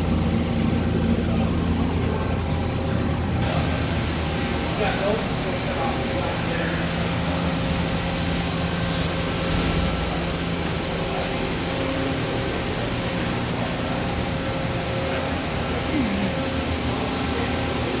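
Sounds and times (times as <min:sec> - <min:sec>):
machine-shop drone: 0:00.0 - 0:18.0
running machinery and ventilation: 0:00.0 - 0:18.0.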